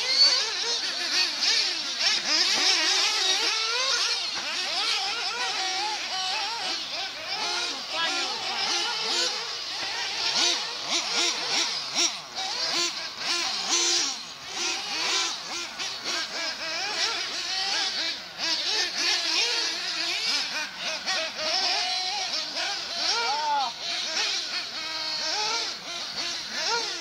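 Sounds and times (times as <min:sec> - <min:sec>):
small engines revving: 0:00.0 - 0:27.0.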